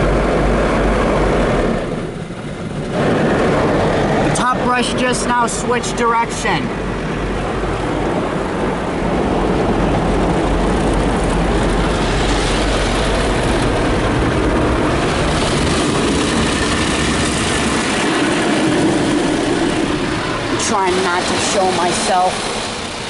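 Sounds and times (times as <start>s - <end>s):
water spraying: 0.0s - 23.0s.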